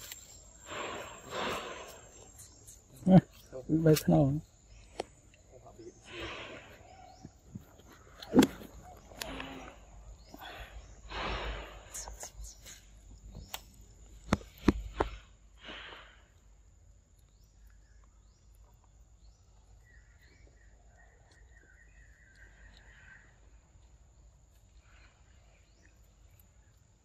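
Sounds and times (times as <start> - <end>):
faint chirping: 0.0 - 27.0.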